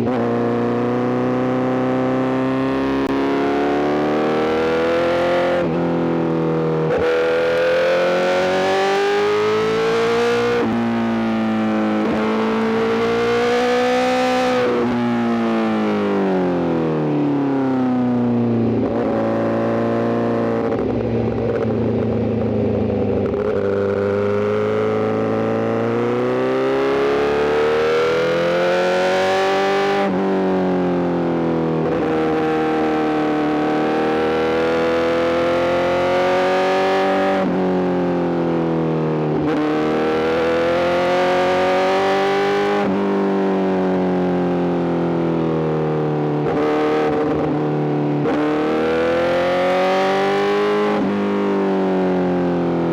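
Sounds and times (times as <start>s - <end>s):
motorcycle engine revving through gears: 0.0s - 17.1s, 17.7s - 52.9s.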